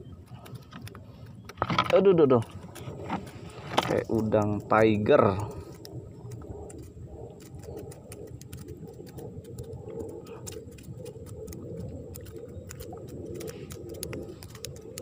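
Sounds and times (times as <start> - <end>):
shrimp clicking in a net: 0.2 - 15.0.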